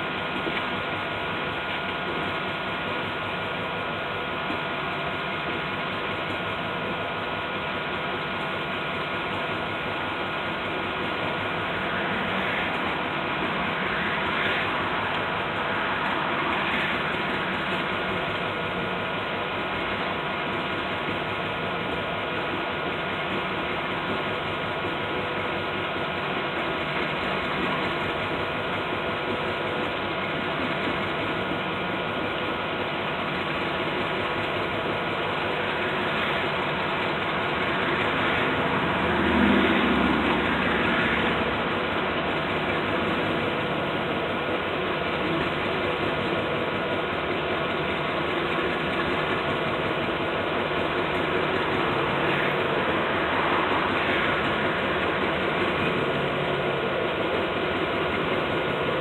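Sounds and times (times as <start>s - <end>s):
freight cars rolling on rails: 0.0s - 59.0s.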